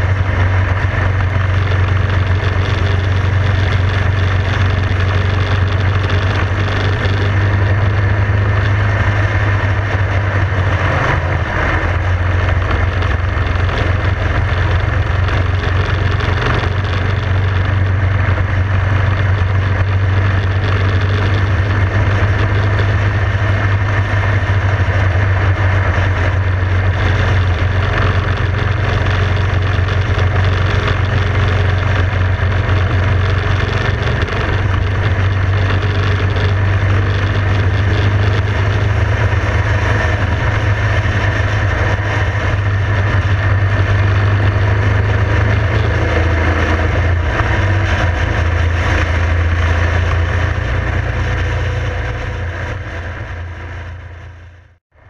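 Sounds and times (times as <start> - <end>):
wind rushing over microphone: 0.0 - 54.1
motorcycle engine droning: 0.0 - 55.0.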